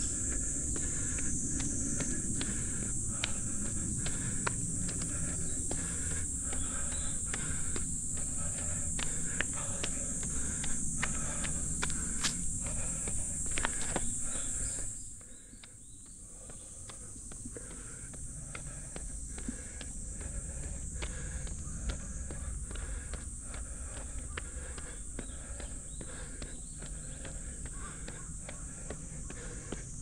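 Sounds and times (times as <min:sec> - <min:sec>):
insects droning: 0:00.0 - 0:30.0
running footsteps on dirt: 0:00.0 - 0:30.0.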